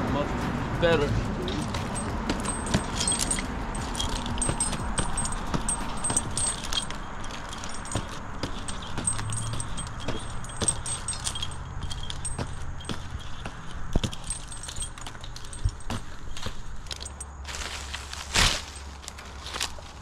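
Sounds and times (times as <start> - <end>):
climbing hardware jingling: 0.1 - 20.0.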